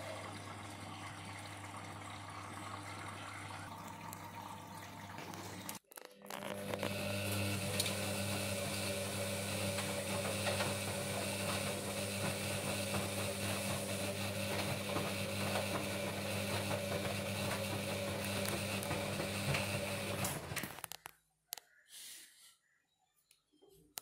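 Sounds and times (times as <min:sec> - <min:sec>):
washing machine drum motor humming: 0:00.0 - 0:05.8, 0:06.4 - 0:20.7.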